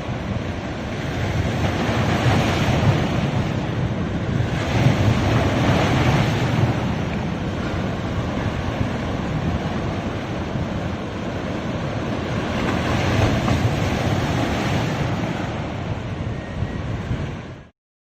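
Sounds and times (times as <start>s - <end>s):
ocean surf on a beach: 0.0s - 17.7s
wind rumbling on microphone: 0.0s - 17.7s.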